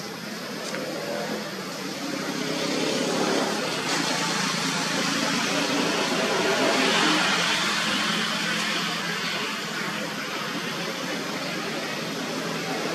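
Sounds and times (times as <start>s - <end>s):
vehicle engine humming: 0.0s - 12.9s.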